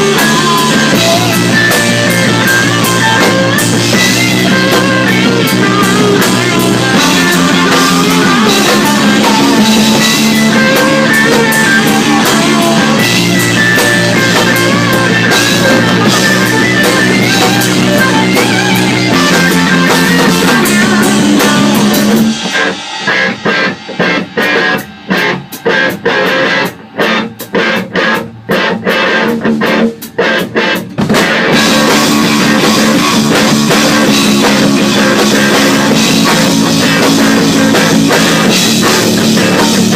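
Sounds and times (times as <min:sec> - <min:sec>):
rock music: 0:00.0 - 0:39.9.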